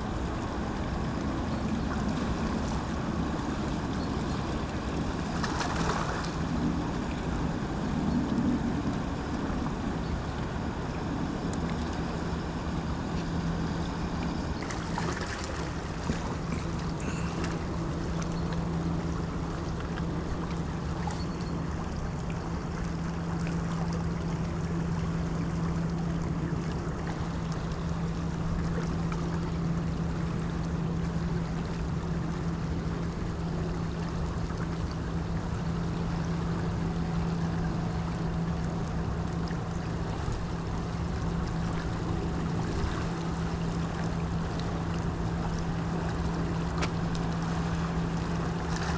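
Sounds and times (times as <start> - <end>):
boat engine drone: 0.0 - 48.9
wind: 0.0 - 48.9.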